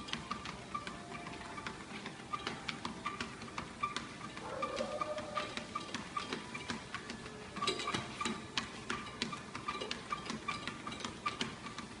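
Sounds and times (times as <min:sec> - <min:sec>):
treadmill belt ticking: 0:00.0 - 0:12.0.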